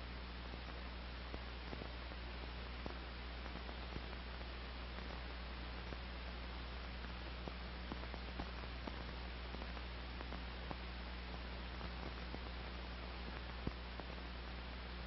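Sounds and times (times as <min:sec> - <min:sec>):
film soundtrack hiss and hum: 0:00.0 - 0:15.0
faint clicks and crackles: 0:00.2 - 0:15.0.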